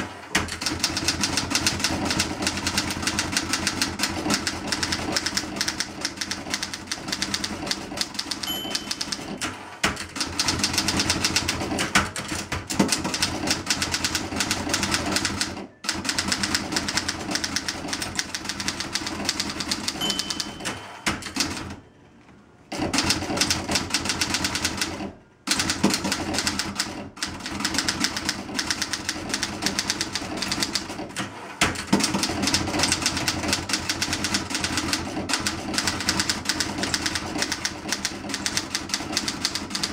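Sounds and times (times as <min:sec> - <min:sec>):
manual typewriter typing: 0:00.0 - 0:21.8, 0:22.7 - 0:39.9.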